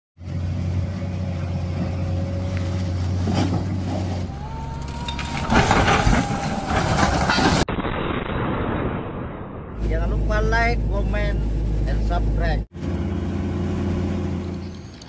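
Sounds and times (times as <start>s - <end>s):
diesel engine humming: 0.2s - 7.2s, 9.8s - 15.0s
rumble of earth and machinery: 0.2s - 15.0s.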